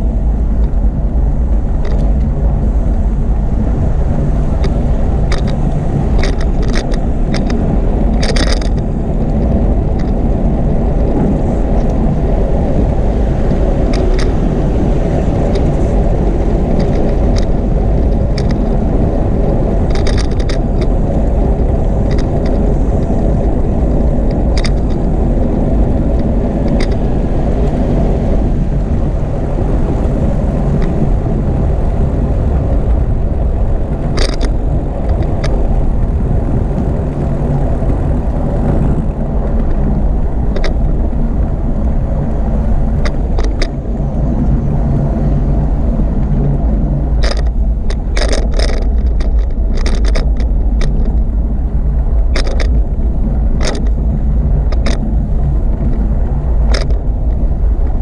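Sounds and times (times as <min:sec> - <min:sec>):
bicycle road and air noise: 0:00.0 - 0:58.0
sharp clicks and rattles: 0:00.0 - 0:58.0.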